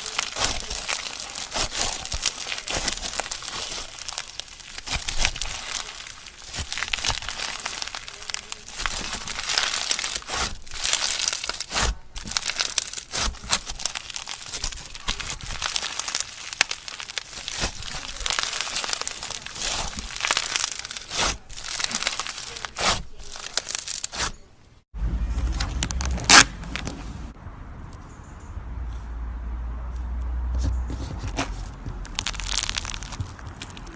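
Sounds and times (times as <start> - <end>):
crunchy slime crackling: 0.0 - 24.8, 25.4 - 27.3, 30.7 - 33.9.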